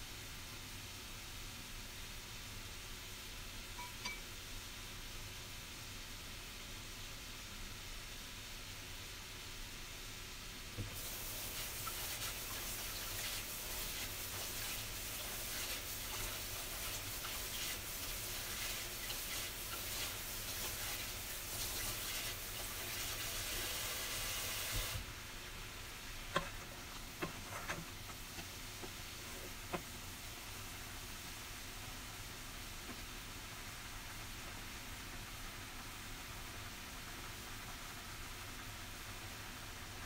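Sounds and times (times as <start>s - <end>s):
water boiling in a pan: 0.0s - 40.0s.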